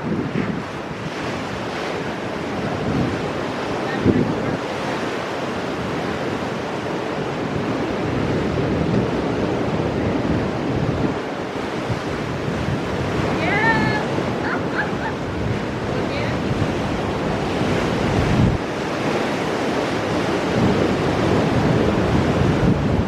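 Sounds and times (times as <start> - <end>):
ocean surf breaking on rocks: 0.0 - 23.0.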